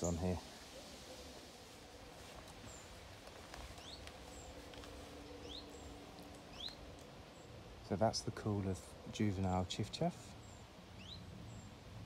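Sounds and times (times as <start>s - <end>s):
low outdoor noise: 0.0s - 12.0s.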